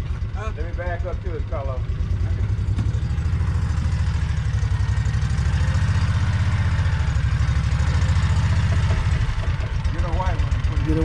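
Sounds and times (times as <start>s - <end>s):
farm vehicle engine pulsing: 0.0s - 11.0s.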